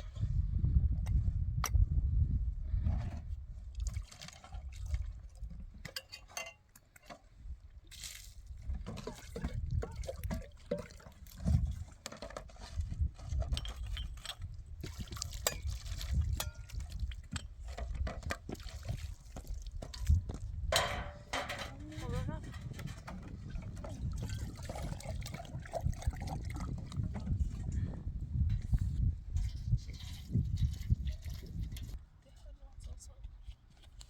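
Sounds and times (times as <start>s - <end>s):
water splashing and sloshing: 3.0s - 32.0s.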